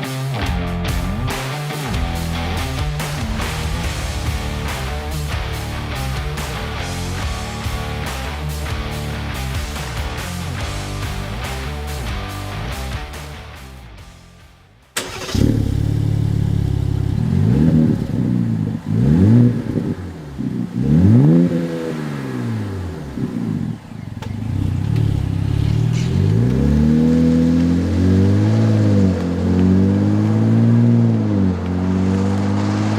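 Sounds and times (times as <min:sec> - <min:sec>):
truck engine idling and revving: 0:00.4 - 0:14.4, 0:15.0 - 0:32.9.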